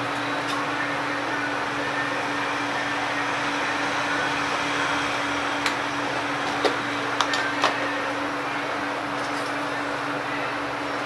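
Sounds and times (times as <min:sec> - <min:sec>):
hot-air station blowing: 0:00.0 - 0:11.0.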